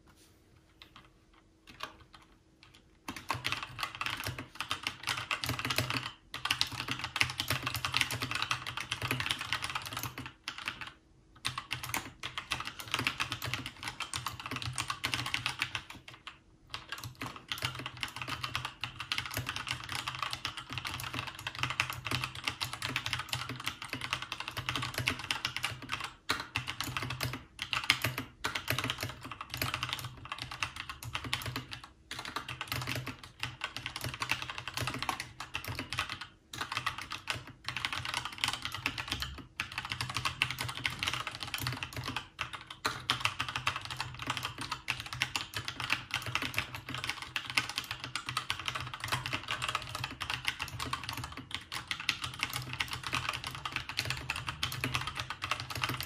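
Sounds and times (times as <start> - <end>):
mechanical keyboard typing: 0.8 - 56.0.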